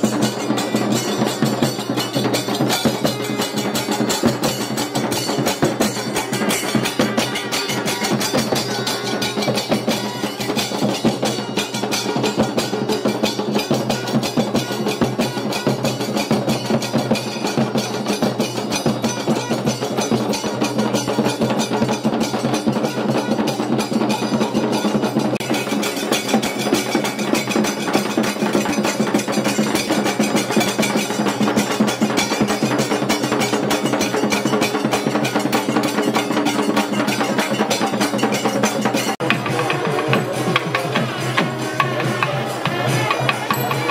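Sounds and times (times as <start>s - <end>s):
music with fast dense drumming: 0.0s - 43.9s.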